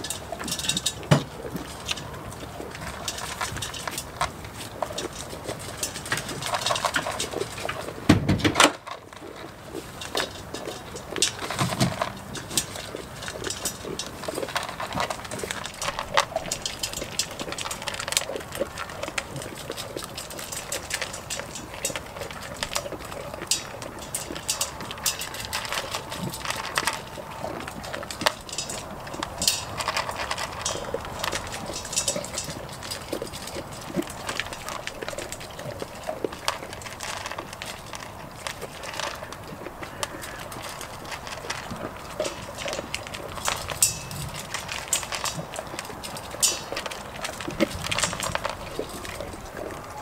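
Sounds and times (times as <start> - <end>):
clicks and crunches on straw: 0.0 - 50.0
goats feeding from bowls: 0.0 - 50.0.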